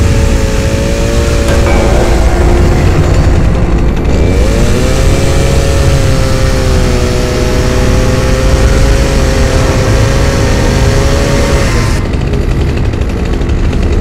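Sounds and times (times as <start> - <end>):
chainsaw cutting meat: 0.0 - 14.0.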